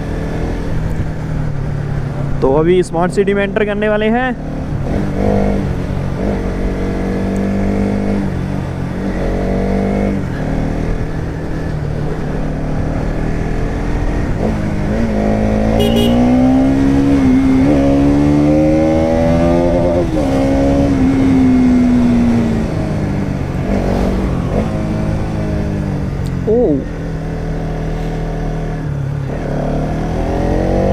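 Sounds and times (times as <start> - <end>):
motorcycle engine revving: 3.5 - 30.9.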